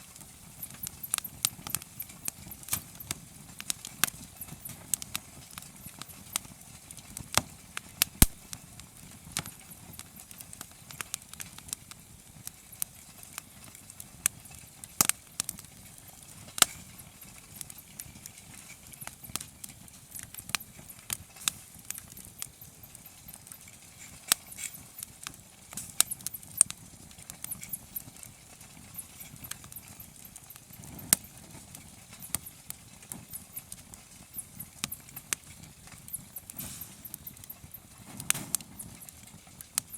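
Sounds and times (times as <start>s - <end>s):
campfire crackling: 0.0s - 39.9s
soft hiss of burning: 0.0s - 39.9s.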